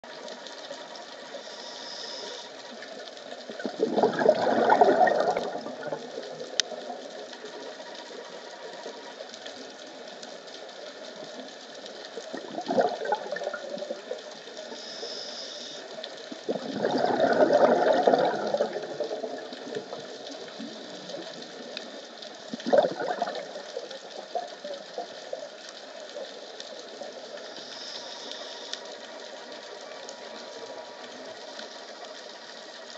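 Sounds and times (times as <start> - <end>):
underwater exhaled bubbles: 0.0 - 32.9.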